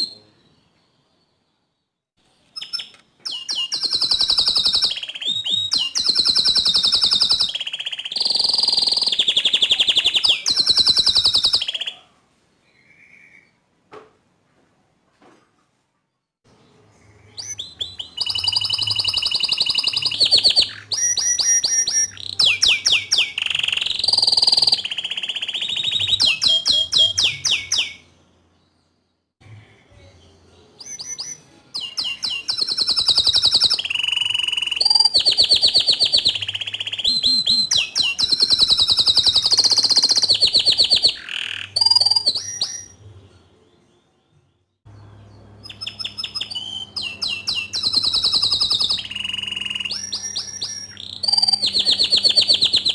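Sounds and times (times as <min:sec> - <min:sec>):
canary singing: 0:02.4 - 0:12.0, 0:16.6 - 0:28.8, 0:29.4 - 0:44.3, 0:44.9 - 0:52.9.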